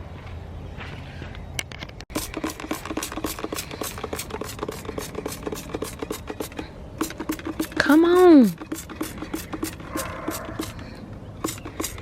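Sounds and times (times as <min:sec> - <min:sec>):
spray bottle squirts: 0:02.1 - 0:12.0.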